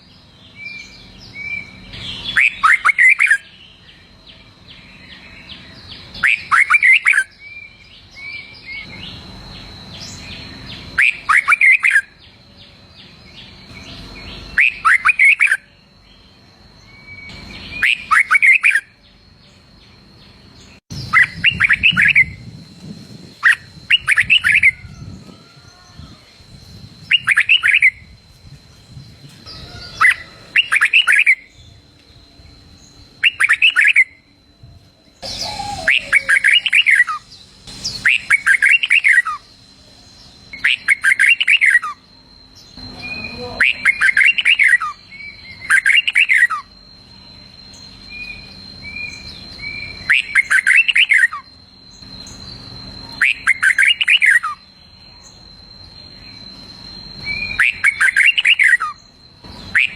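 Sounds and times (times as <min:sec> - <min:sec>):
bulbul singing: 0:00.0 - 0:59.9
faint steady high tone: 0:00.0 - 0:59.9.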